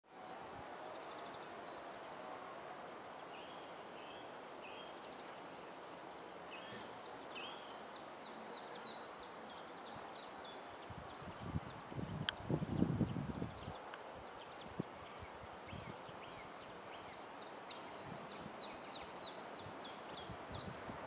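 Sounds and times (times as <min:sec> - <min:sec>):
wind rustling through branches: 0:00.0 - 0:21.0.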